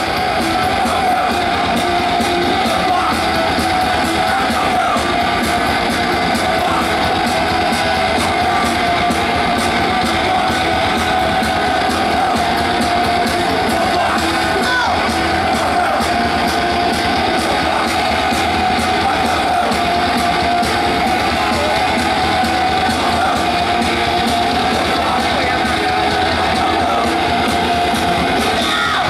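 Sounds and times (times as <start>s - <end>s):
distorted electric guitar: 0.0s - 29.0s
fast drumming: 0.0s - 29.0s.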